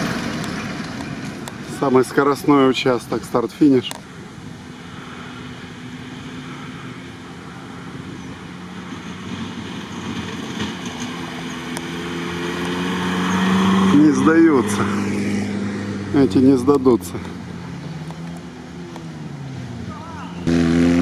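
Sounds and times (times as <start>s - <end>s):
car engine driving at speed: 0.0s - 21.0s.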